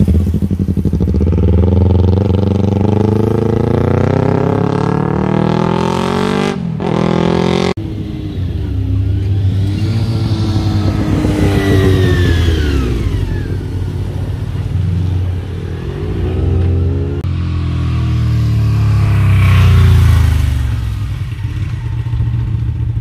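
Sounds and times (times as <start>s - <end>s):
motorcycle engines passing: 0.0s - 23.0s.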